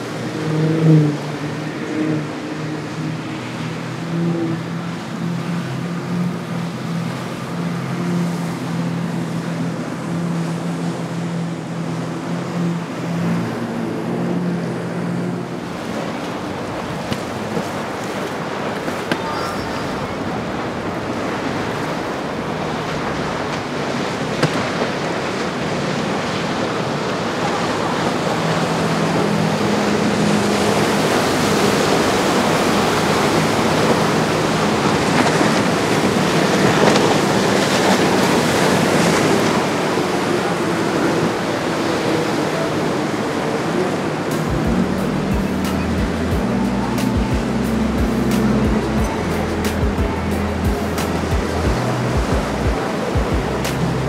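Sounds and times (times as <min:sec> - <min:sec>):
boat engines running: 0:00.0 - 0:54.0
surf rushing: 0:00.0 - 0:54.0
wind: 0:00.0 - 0:54.0.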